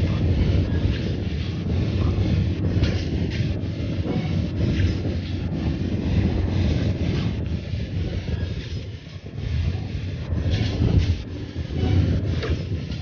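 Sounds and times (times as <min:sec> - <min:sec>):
vehicle engine and tyre noise: 0:00.0 - 0:13.0
wind on microphone: 0:00.0 - 0:13.0.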